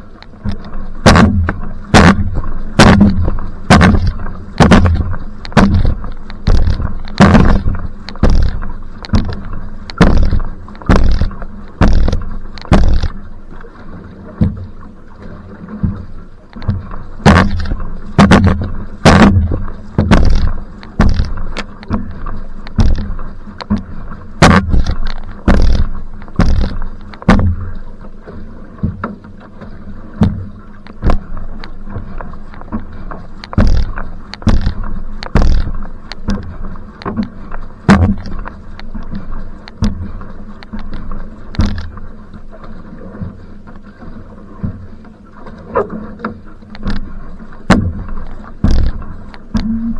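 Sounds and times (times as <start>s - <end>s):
paddle splash and knock: 0.0s - 49.9s
water noise: 0.0s - 49.9s.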